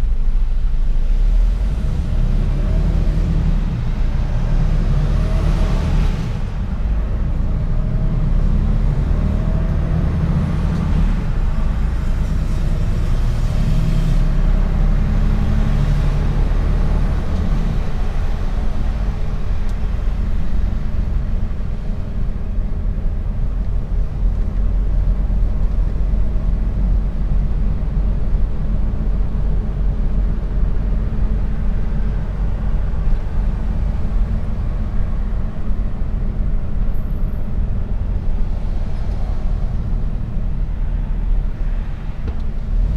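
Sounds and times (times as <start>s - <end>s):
truck diesel engine rumble: 0.0s - 42.9s.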